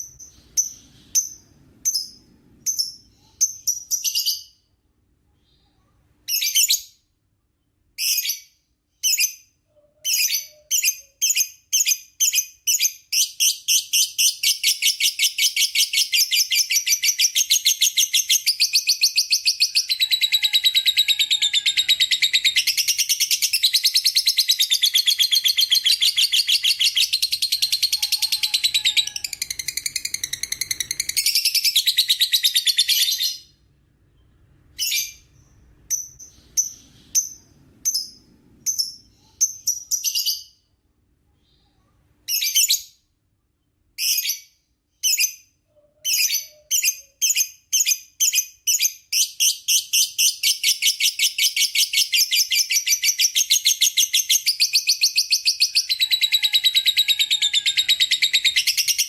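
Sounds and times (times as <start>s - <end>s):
shrill bird chirps: 0.0s - 59.0s.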